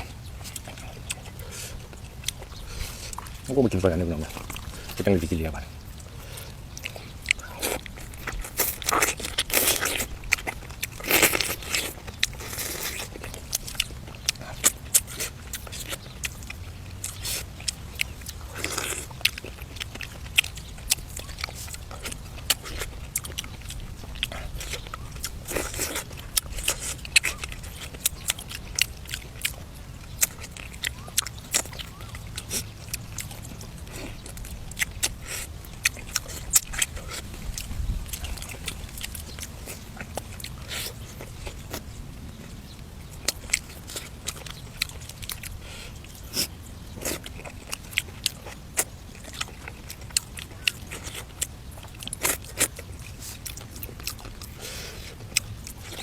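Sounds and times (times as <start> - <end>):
person chewing with crunches: 0.0 - 56.0.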